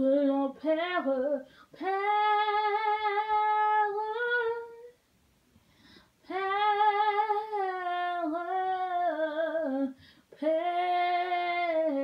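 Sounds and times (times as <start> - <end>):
woman singing unaccompanied: 0.0 - 5.0, 6.2 - 12.0.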